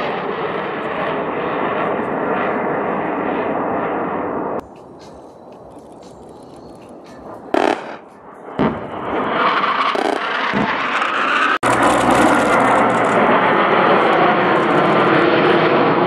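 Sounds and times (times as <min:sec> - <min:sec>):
fighter jet engines flying overhead: 0:00.0 - 0:16.0.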